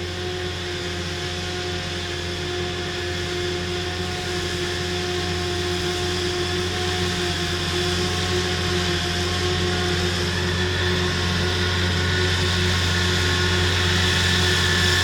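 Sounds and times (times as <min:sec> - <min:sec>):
harvester engine drone: 0:00.0 - 0:15.0.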